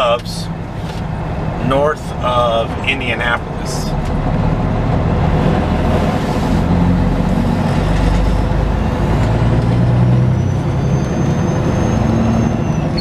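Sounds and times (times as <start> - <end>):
truck diesel engine under load: 0.0 - 13.0.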